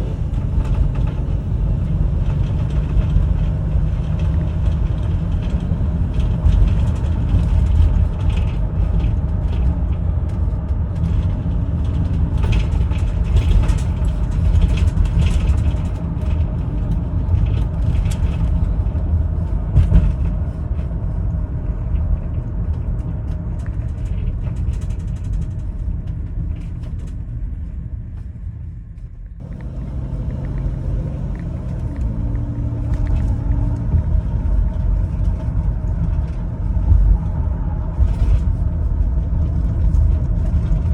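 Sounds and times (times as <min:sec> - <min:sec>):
minivan engine and road rumble: 0:00.0 - 0:40.9
rattles and bumps: 0:00.0 - 0:40.9.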